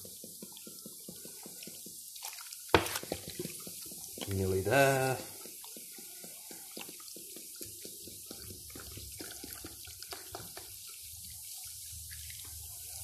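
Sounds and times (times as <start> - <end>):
liquid pouring with glugs and splashes: 0.0 - 13.0.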